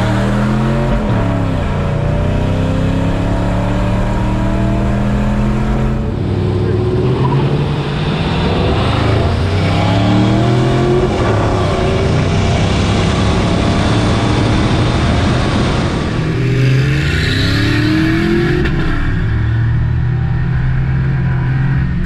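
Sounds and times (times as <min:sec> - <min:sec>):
truck engines at full throttle: 0:00.0 - 0:22.0.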